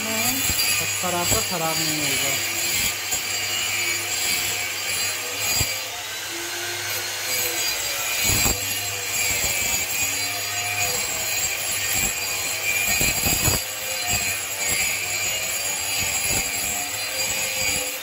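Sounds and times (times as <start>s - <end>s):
stone grinding steel: 0.0s - 18.0s.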